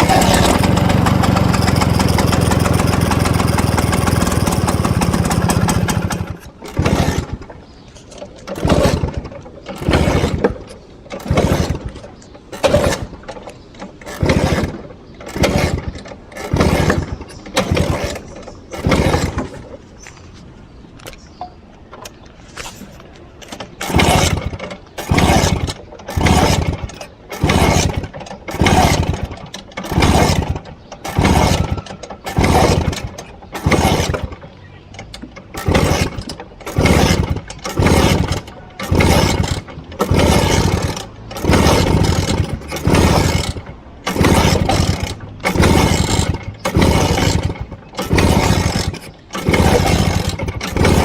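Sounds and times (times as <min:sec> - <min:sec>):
kick-start cranking and sputter: 0:00.0 - 0:19.8, 0:23.4 - 0:51.0
scooter engine stalling: 0:00.0 - 0:20.3, 0:21.0 - 0:51.0.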